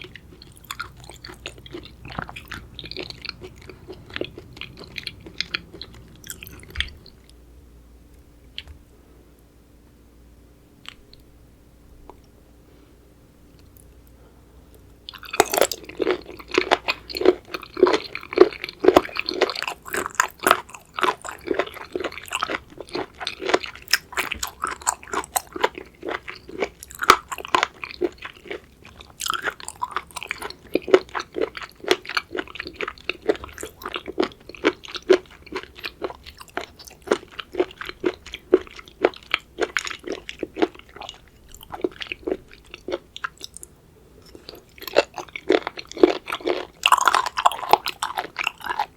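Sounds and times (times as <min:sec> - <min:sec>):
wet crunchy chewing: 0:00.0 - 0:07.4, 0:15.1 - 0:48.9.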